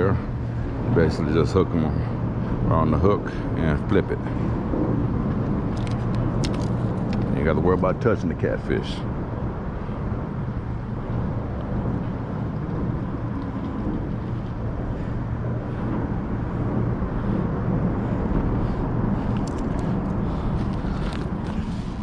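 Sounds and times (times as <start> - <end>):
faint constant hum: 0.0 - 22.0
road traffic rumble: 0.0 - 22.0.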